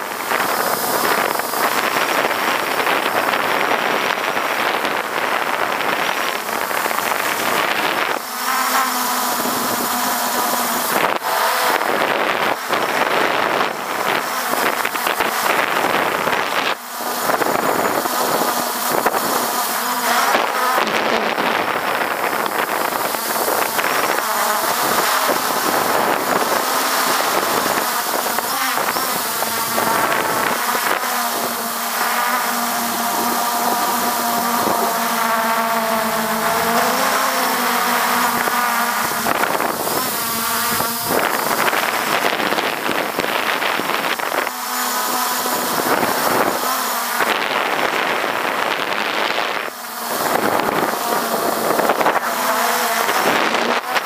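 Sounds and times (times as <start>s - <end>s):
drone propellers buzzing: 0.0s - 54.0s.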